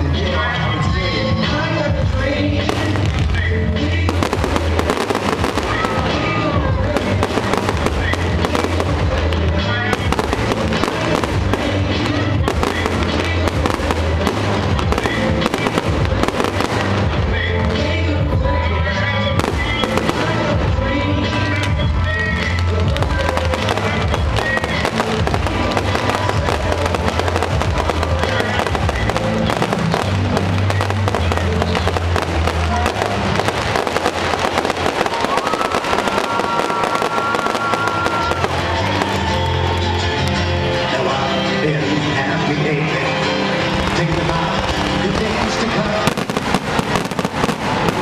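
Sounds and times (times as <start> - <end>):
fireworks bursting with bangs: 0.0 - 41.4, 43.1 - 48.0
music: 0.0 - 48.0.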